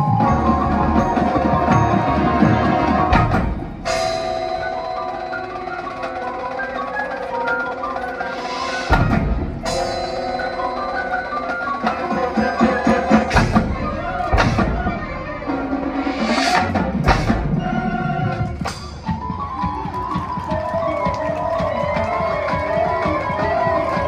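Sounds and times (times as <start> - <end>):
mallet keyboards: 0.0 - 24.0
marching band playing: 0.0 - 24.0
percussion hits and crashes: 0.0 - 24.0.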